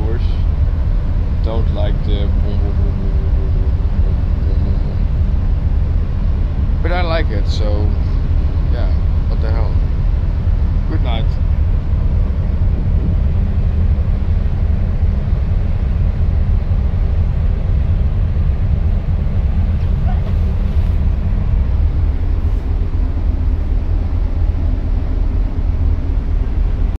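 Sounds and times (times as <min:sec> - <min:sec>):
ship engines deep rumble: 0:00.0 - 0:27.0.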